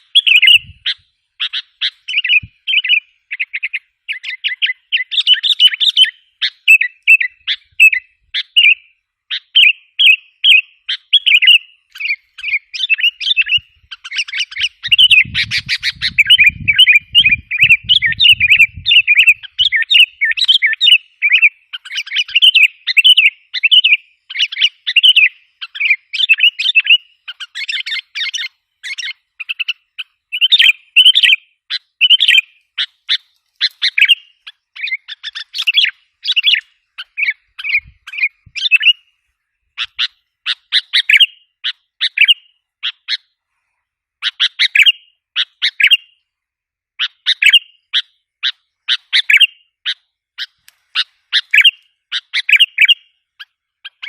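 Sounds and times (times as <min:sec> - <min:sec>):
bird chattering chirps: 0:00.0 - 0:39.1, 0:39.8 - 0:43.3, 0:44.2 - 0:46.2, 0:47.0 - 0:54.0.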